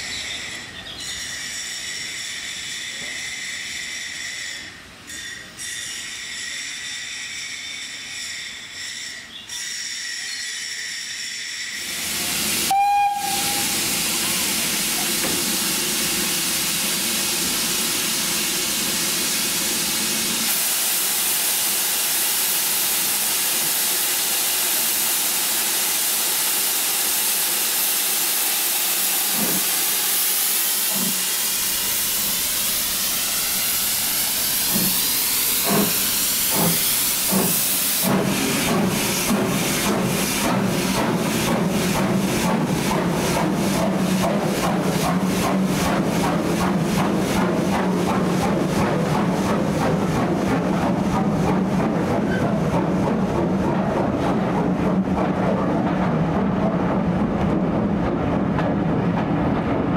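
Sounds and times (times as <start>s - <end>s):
steam hissing from locomotive: 0.0s - 54.8s.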